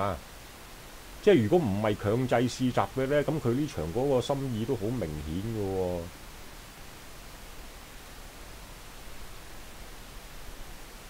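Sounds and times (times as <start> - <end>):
microphone hiss: 0.0 - 11.0.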